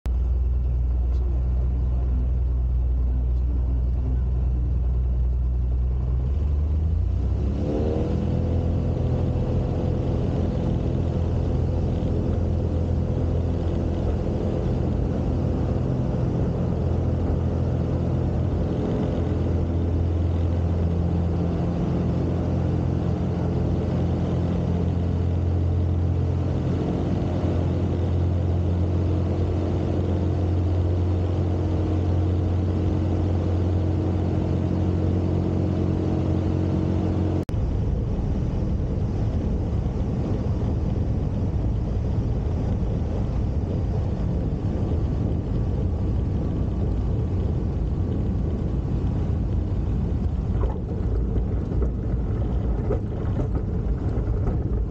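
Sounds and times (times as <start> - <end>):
aircraft engine and propeller: 0.0 - 54.9.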